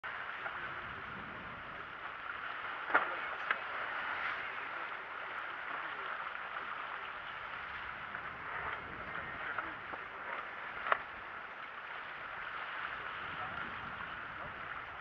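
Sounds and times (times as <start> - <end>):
sea water rushing: 0.0 - 15.0
wind: 0.0 - 15.0.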